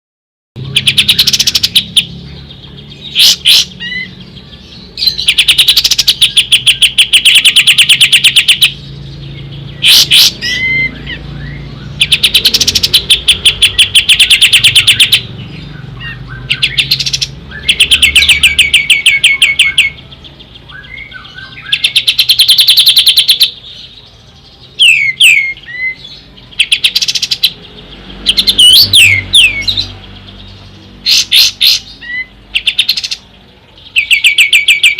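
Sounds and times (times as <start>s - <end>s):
songbird trilling and whistling: 0.6s - 34.9s.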